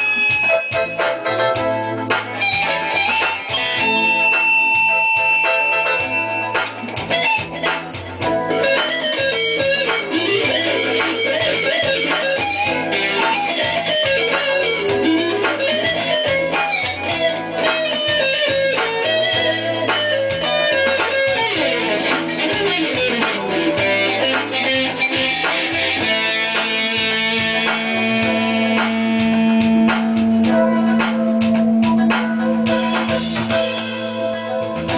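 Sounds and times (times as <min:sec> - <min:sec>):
electric guitar melody: 0:00.0 - 0:34.9
repeating bass pattern: 0:00.0 - 0:34.9.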